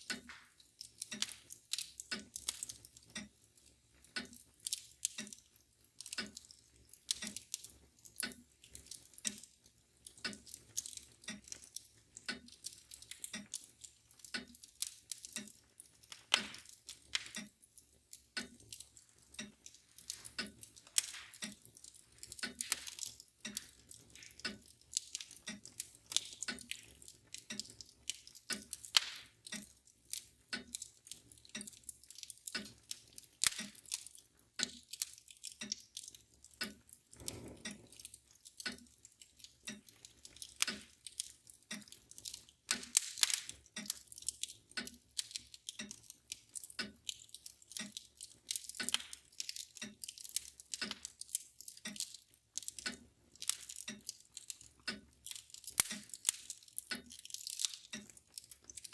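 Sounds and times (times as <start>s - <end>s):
mantel clock ticking: 0.0s - 58.9s
wood fire crackling: 0.0s - 58.9s.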